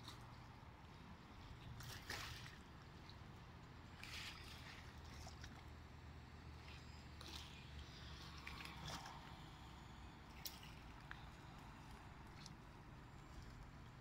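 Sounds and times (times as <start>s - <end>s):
low steady hum: 0.0s - 14.0s
small lake waves lapping: 0.0s - 14.0s
soft water splashes: 0.0s - 14.0s.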